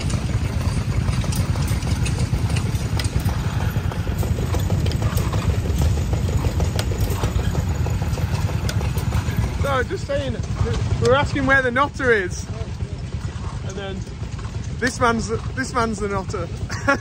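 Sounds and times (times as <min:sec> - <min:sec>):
engine running at low speed: 0:00.0 - 0:17.0.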